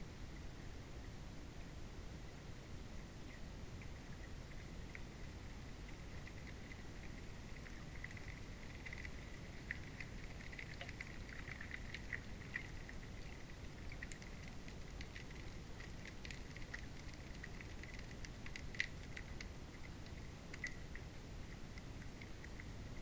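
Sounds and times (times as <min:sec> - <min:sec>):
underwater rumble of moving water: 0:03.6 - 0:23.0
small clicks and ticks: 0:03.8 - 0:23.0.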